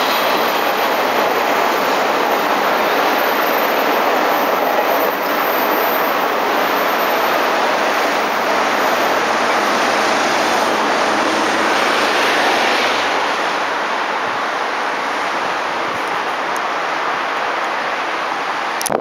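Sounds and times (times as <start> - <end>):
electric train running on track: 0.0 - 18.9.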